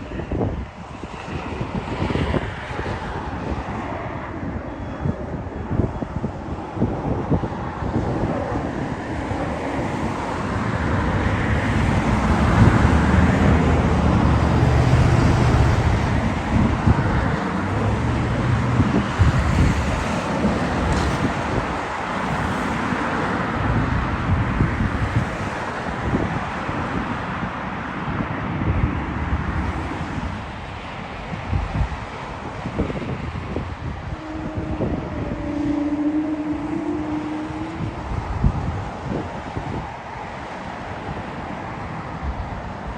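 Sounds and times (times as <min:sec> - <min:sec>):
jet airliner engines passing: 0:00.0 - 0:42.9
wind buffeting microphone: 0:00.0 - 0:42.9.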